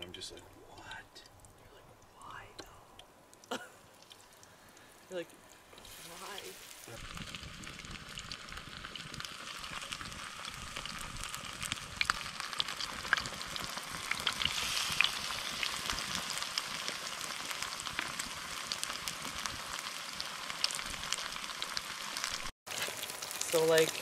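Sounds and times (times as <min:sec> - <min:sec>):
fish frying in hot oil: 0:03.5 - 0:24.0.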